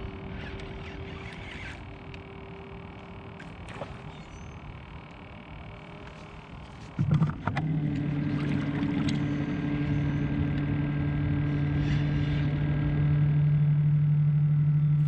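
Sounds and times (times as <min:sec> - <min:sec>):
small boat motor humming: 0:00.0 - 0:15.0.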